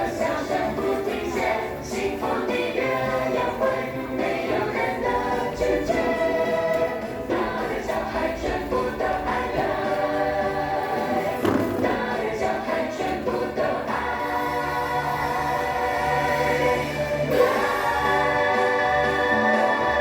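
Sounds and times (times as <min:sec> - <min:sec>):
voices singing together: 0:00.0 - 0:20.0.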